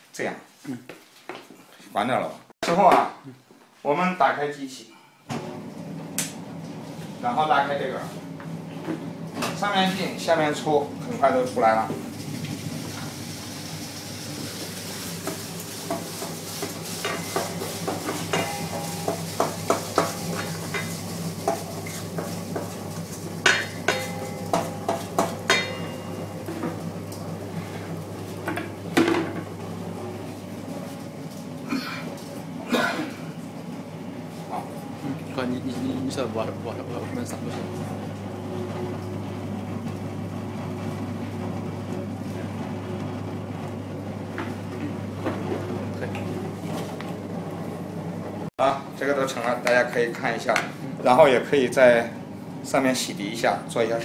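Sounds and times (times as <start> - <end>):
mixing machine humming: 5.3 - 54.0.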